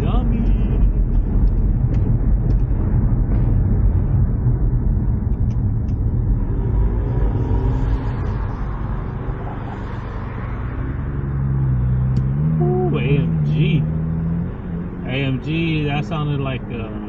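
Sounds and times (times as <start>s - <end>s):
car engine driving: 0.0s - 17.0s
road rumble: 0.0s - 17.0s.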